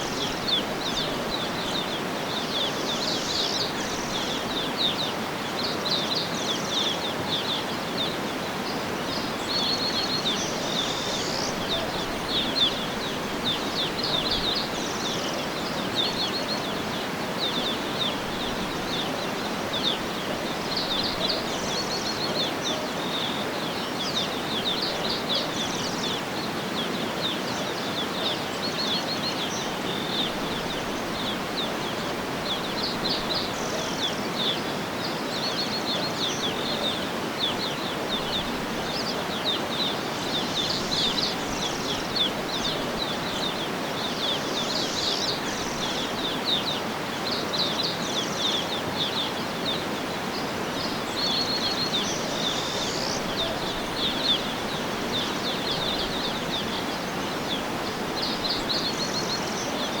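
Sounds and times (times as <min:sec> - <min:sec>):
birds chirping and trilling: 0:00.0 - 1:00.0
outdoor background hiss: 0:00.0 - 1:00.0.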